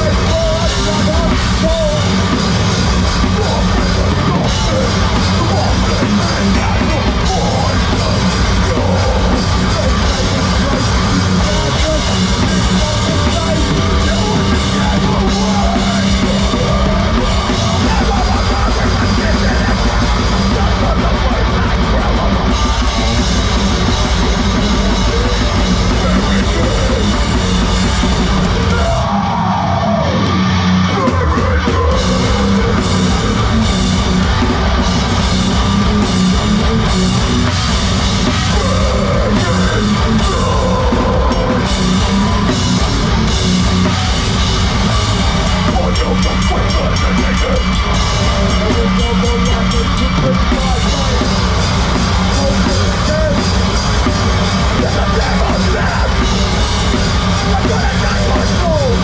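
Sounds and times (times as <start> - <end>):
live heavy rock band: 0.0 - 59.0.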